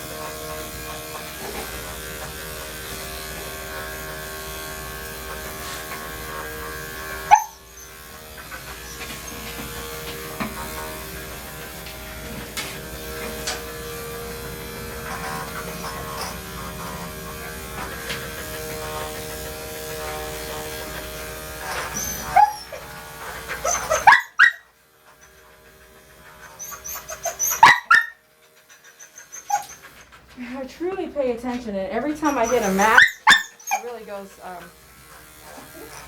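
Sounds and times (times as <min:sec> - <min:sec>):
electric clippers running: 0:00.0 - 0:36.0.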